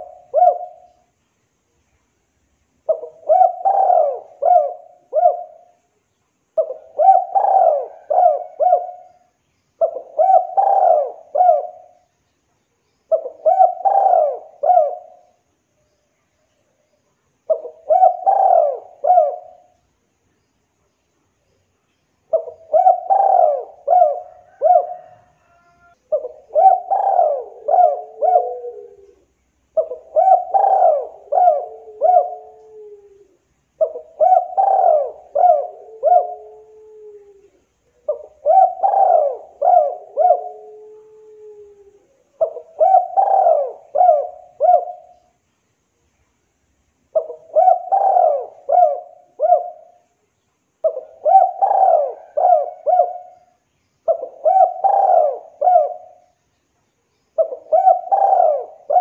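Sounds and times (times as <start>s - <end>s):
dove cooing: 0.0s - 1.1s, 2.8s - 5.8s, 6.6s - 12.1s, 13.1s - 15.4s, 17.4s - 19.8s, 22.3s - 45.3s, 47.1s - 50.1s, 50.8s - 56.4s, 57.4s - 59.0s.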